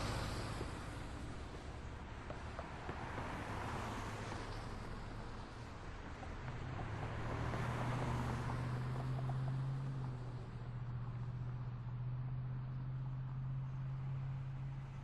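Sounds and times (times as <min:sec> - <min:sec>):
low vehicle engine hum: 0:00.0 - 0:15.0
passing cars and tyre noise: 0:00.0 - 0:15.0.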